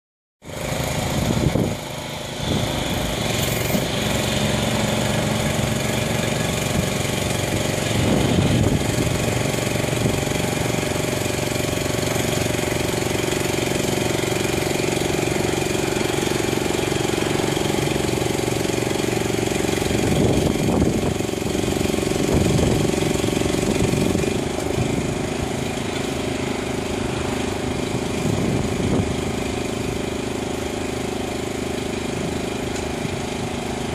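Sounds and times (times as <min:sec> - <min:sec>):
small engine running: 0:00.4 - 0:33.9.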